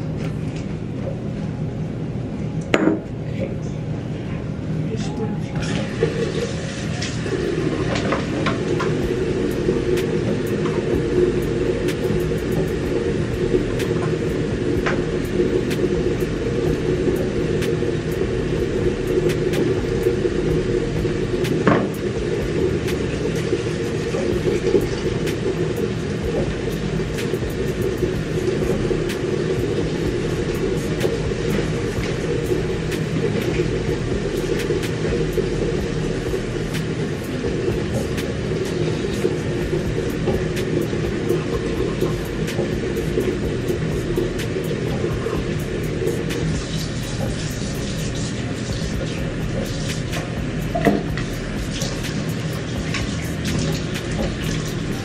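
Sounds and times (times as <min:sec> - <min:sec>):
low hum with rumble: 0:00.0 - 0:55.0.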